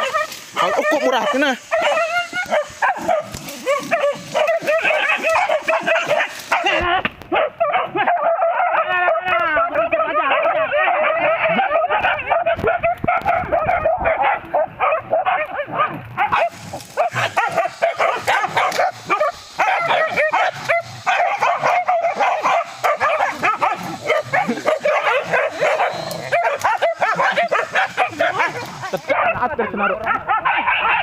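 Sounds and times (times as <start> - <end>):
dogs barking and yelping: 0.0 - 31.0.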